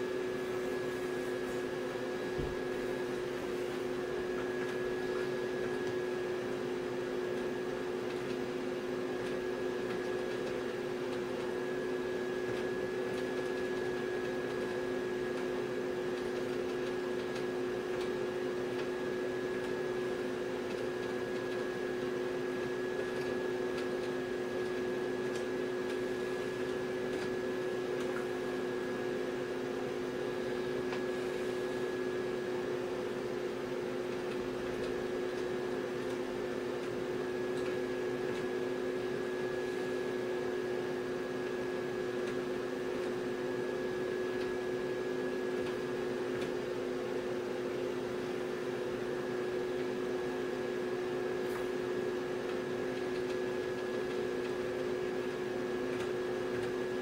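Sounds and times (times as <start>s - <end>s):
electrical hum and fan noise: 0.0s - 57.0s.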